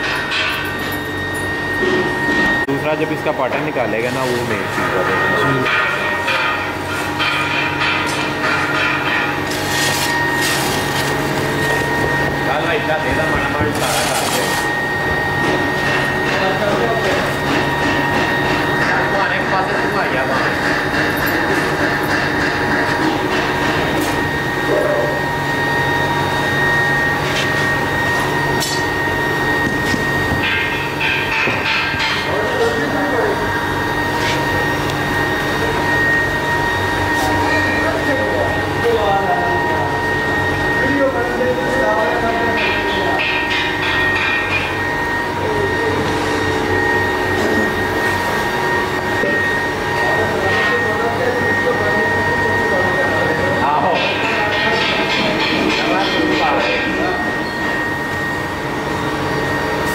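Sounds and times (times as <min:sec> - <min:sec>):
machinery high whine: 0:00.0 - 0:59.9
machinery low hum: 0:00.0 - 0:59.9.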